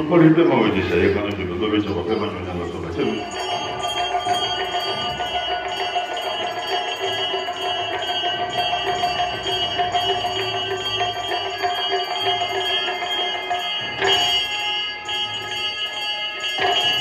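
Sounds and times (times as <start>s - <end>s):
bell-like ringing: 0.0s - 17.0s.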